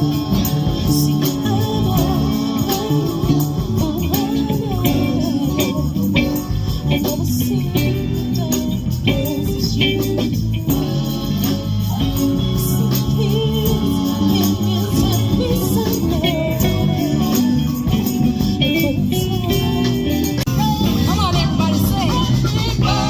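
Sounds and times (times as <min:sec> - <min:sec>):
bass line: 0:00.0 - 0:23.0
live band playing: 0:00.0 - 0:23.0
person singing: 0:00.0 - 0:23.0
tambourine jingling: 0:00.0 - 0:23.0.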